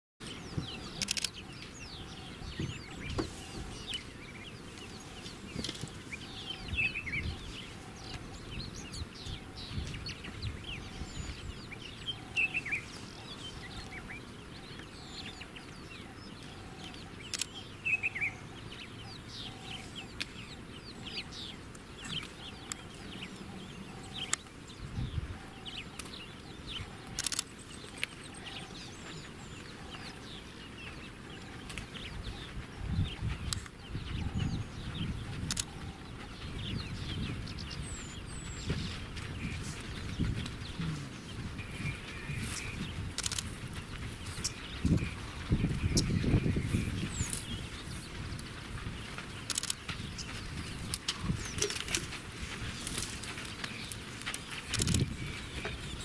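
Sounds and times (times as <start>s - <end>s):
birds chirping and clucking: 0.2s - 56.0s.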